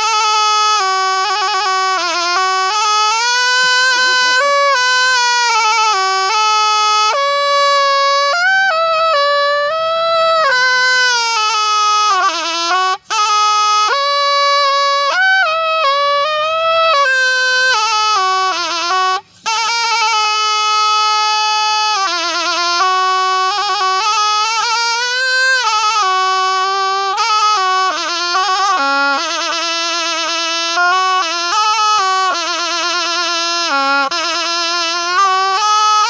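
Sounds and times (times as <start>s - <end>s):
reed oboe melody: 0.0s - 36.0s.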